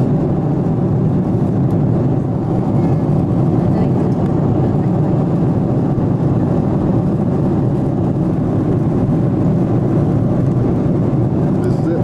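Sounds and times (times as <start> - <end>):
jet engine and airflow rush in cabin: 0.0 - 12.0.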